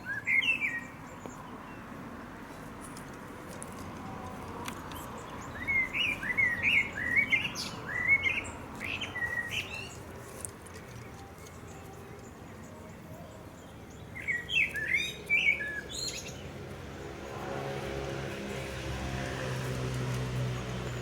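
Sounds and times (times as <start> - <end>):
songbird chirping: 0.0 - 17.2.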